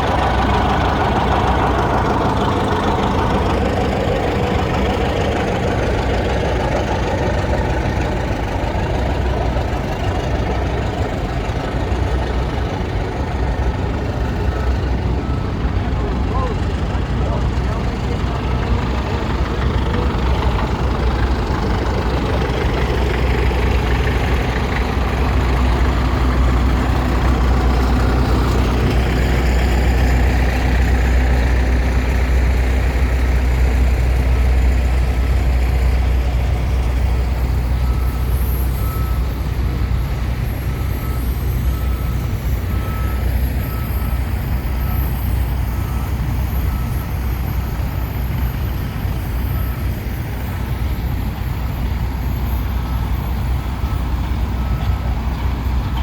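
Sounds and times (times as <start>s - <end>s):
tractor engines rumbling: 0.0s - 56.0s.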